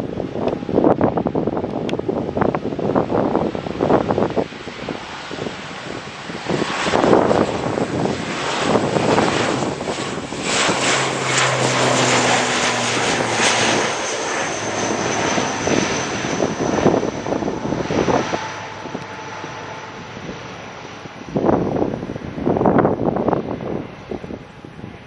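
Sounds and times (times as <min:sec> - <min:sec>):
loud propeller drone with whine: 0:00.0 - 0:25.0.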